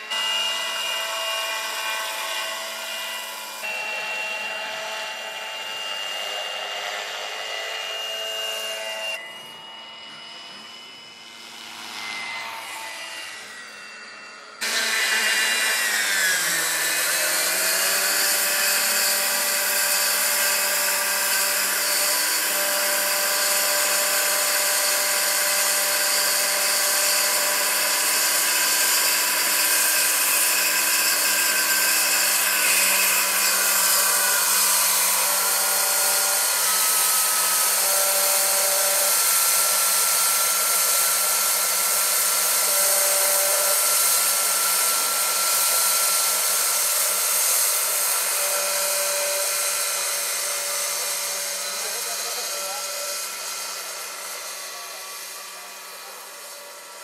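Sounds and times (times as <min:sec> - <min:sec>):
model helicopter rotor whine: 0:00.0 - 0:57.0.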